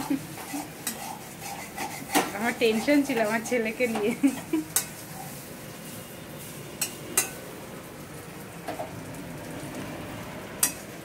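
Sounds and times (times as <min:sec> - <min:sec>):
frying hiss in a pan: 0:00.0 - 0:11.0.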